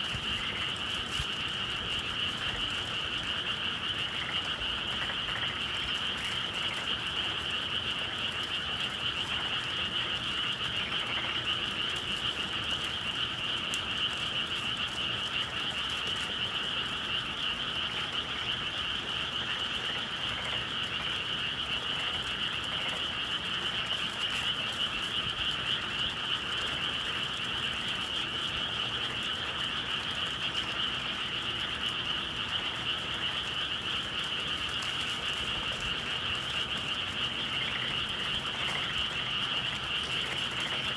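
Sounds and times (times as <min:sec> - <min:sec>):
chorus of frogs calling: 0:00.0 - 0:40.9.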